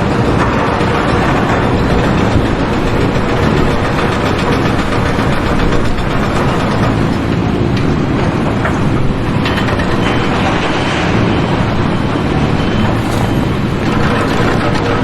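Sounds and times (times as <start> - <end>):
machine engine running: 0.0 - 15.0
mechanical rattling: 0.0 - 15.0.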